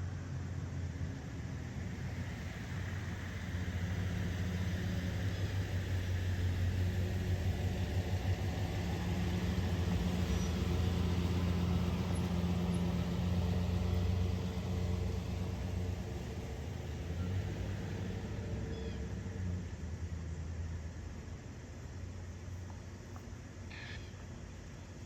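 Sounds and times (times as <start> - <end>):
heavy engine running: 0.0 - 21.2.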